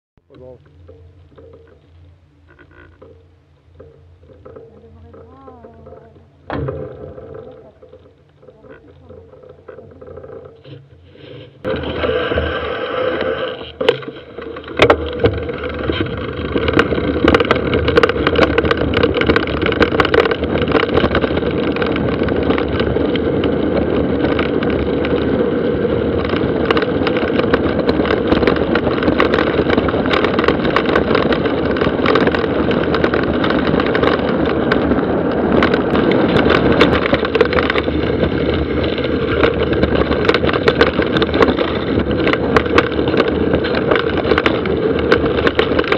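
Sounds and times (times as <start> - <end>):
bike clicking and rattling: 0.2 - 45.9
bike riding noise rushing: 0.3 - 45.9.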